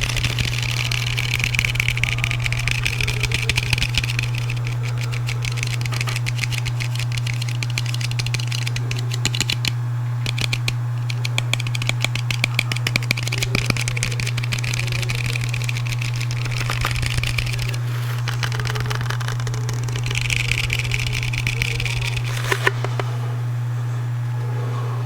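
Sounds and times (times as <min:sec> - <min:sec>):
rapid light tapping: 0:00.0 - 0:23.2
low background hum: 0:00.0 - 0:25.0.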